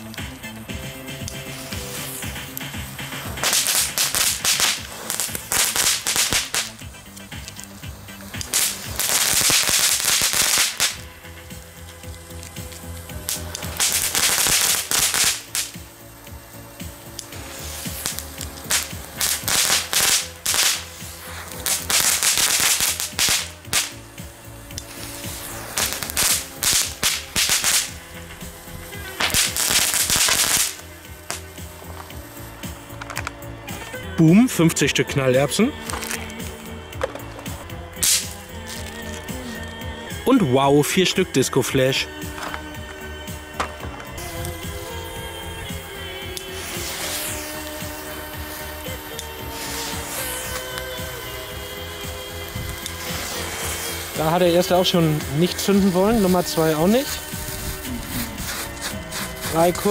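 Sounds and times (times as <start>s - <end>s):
background music: 0.0s - 59.9s
fireworks crackling and hissing: 0.0s - 59.9s.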